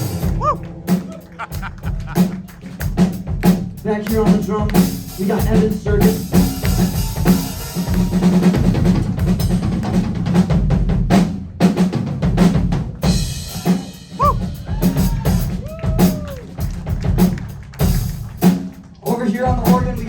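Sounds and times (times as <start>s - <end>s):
snare drum hits and fills: 0.0s - 18.9s
bass drum: 0.0s - 20.0s.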